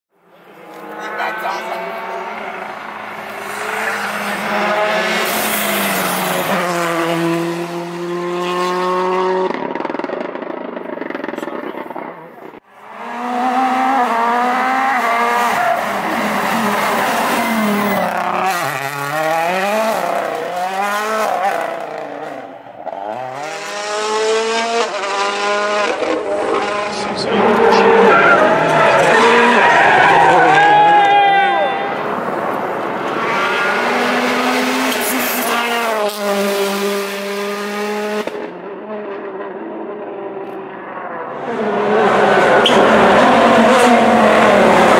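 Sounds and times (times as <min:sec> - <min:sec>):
rally car engine revving: 0:00.4 - 0:44.9.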